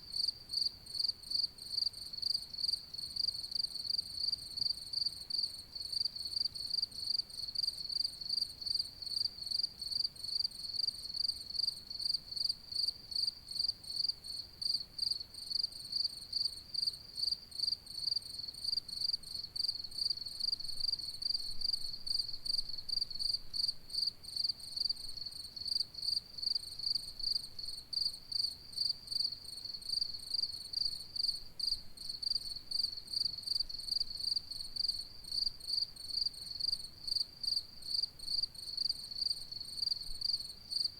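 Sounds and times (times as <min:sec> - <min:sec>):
cricket chirping: 0:00.1 - 0:40.9.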